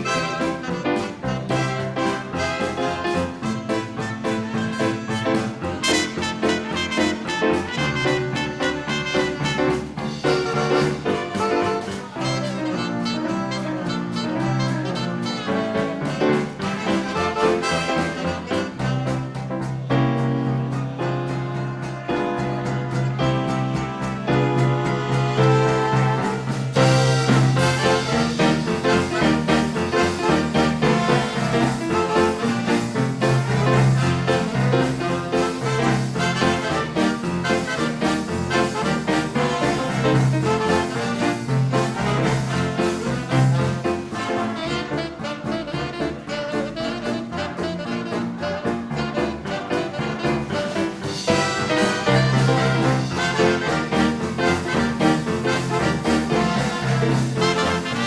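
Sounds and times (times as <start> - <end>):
big band jazz playing: 0.0 - 58.0.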